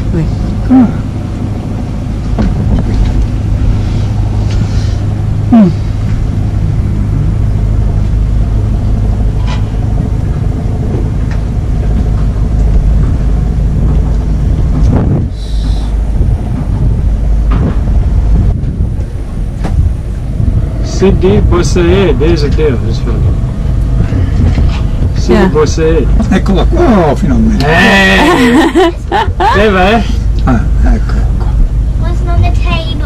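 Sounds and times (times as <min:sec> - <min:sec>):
loud low rumble: 0:00.0 - 0:33.0.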